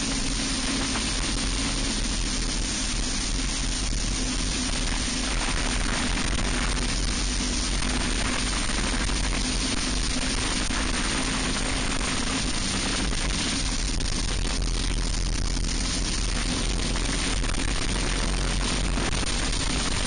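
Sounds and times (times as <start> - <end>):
kart engine running hard: 0.0 - 20.0
wind rush: 0.0 - 20.0.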